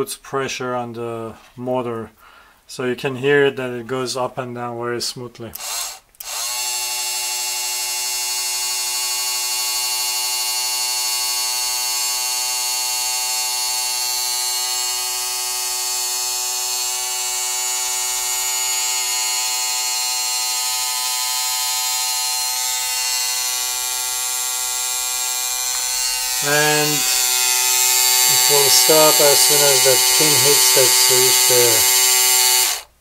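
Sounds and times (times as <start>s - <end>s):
small electric motor whine: 5.6s - 32.9s.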